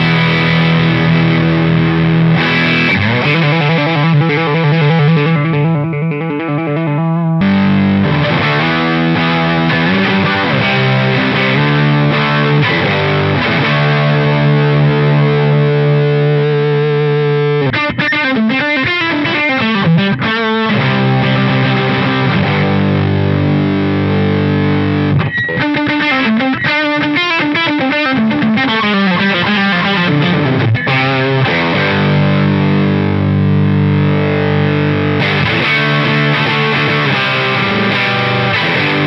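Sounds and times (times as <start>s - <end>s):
overdriven electric guitar: 0.0s - 39.0s.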